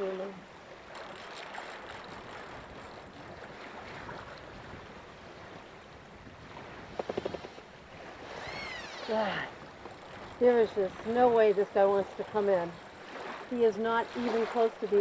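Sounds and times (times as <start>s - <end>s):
water slapping against boat: 0.6s - 15.0s
wind buffeting microphone: 0.8s - 15.0s.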